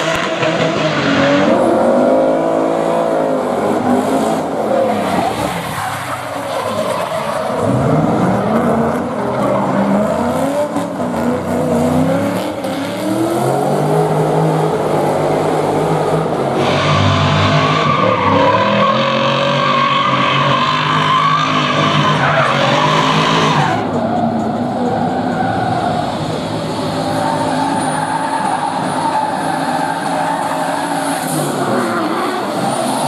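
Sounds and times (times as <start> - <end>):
high tyre squeal: 0.0 - 14.5, 15.7 - 33.0
car engine revving: 0.0 - 33.0
tyres skidding on tarmac: 0.0 - 33.0.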